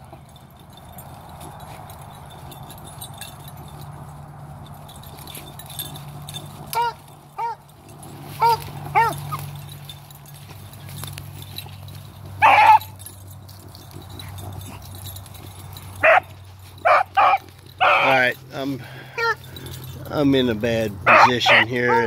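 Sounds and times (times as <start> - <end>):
dogs barking: 0.0 - 20.0, 20.9 - 22.0.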